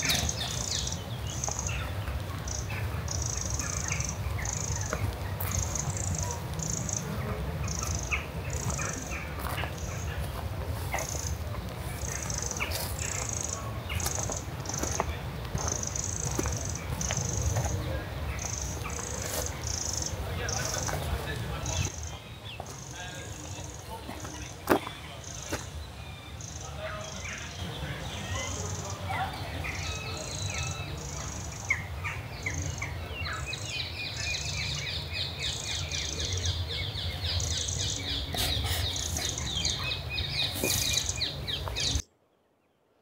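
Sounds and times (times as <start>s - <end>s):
small birds chirping: 0.0s - 42.8s.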